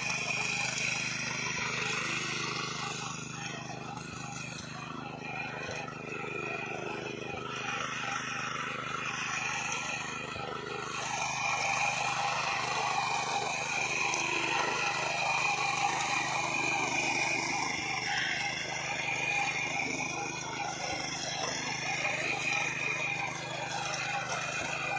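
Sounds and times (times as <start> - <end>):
engine running: 0.0 - 24.9.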